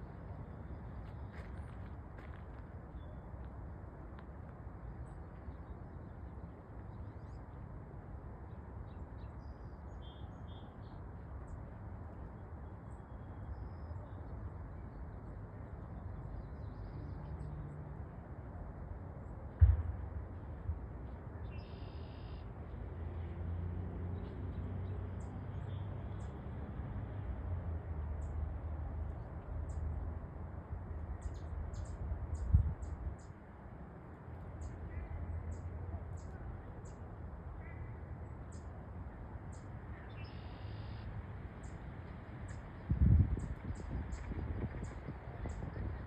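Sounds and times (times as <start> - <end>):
low outdoor background noise: 0.0 - 46.0.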